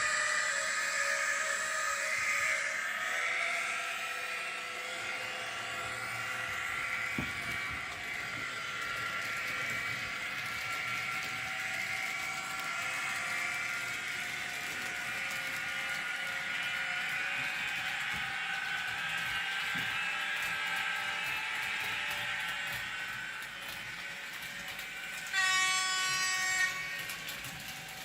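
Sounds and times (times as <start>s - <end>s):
electric locomotive whine: 0.0s - 28.0s.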